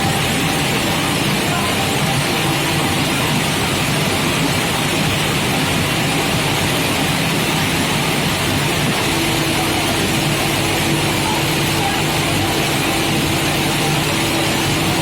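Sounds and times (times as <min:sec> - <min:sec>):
industrial furnace humming: 0:00.0 - 0:15.0.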